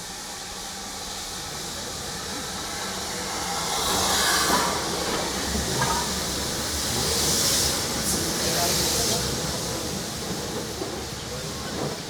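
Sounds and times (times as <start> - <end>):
steam train rumble: 0.0 - 12.0
hiss of steam: 2.2 - 12.0.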